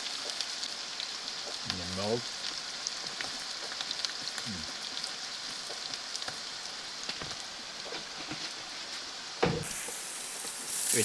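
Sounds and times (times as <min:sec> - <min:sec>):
food frying in hot oil: 0:00.0 - 0:11.0
oil popping and crackling: 0:00.0 - 0:11.0.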